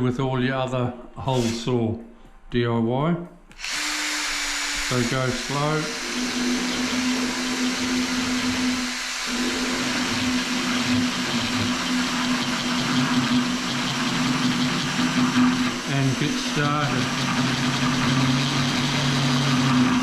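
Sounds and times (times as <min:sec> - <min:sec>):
power drill cutting tile: 0:03.6 - 0:20.0.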